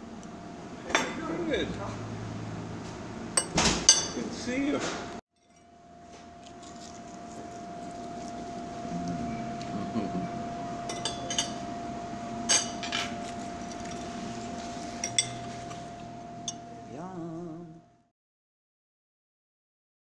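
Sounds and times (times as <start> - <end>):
steady background hum: 0.0 - 18.1.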